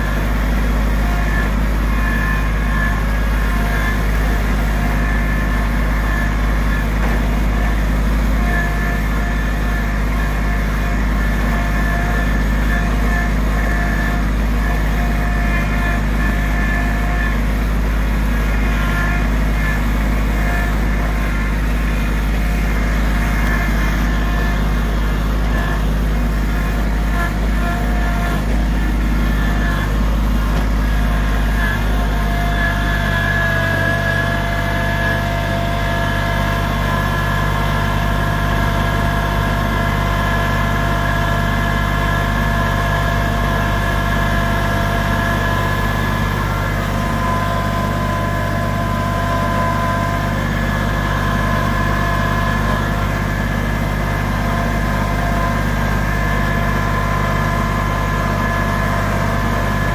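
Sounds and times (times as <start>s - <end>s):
high engine whine: 0.0s - 59.9s
small cart engine running: 0.0s - 59.9s.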